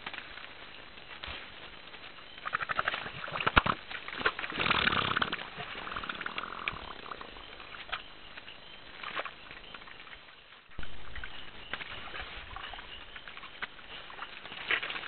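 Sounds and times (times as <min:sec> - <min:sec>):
mud squelching and clicking: 0:02.0 - 0:15.0.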